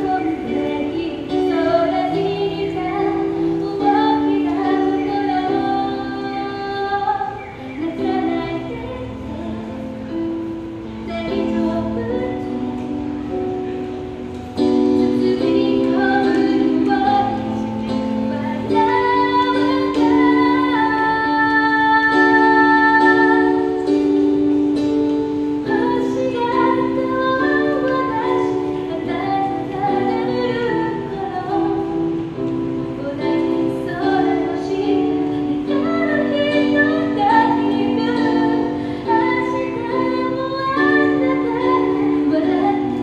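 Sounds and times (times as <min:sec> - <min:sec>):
electronic keyboard chords: 0:00.0 - 0:43.0
woman singing into a microphone: 0:00.0 - 0:43.0.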